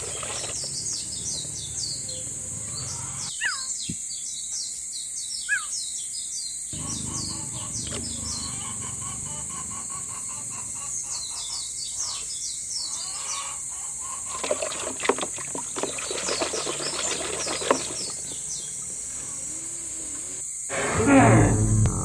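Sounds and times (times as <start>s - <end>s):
small birds chirping: 0.0s - 14.5s, 15.3s - 20.6s.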